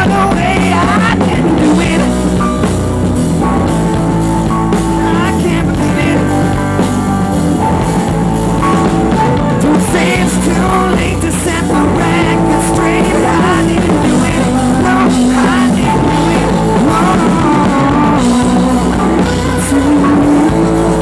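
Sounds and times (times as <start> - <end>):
drum kit: 0.0 - 21.0
electric guitar: 0.0 - 21.0
person singing: 0.0 - 21.0.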